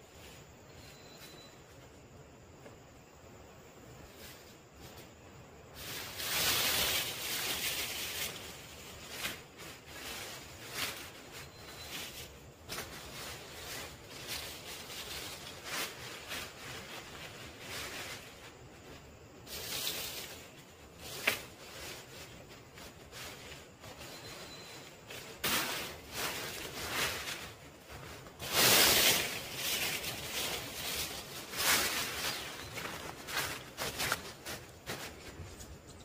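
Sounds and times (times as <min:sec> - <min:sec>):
branches and sticks rustling: 0:03.7 - 0:36.0.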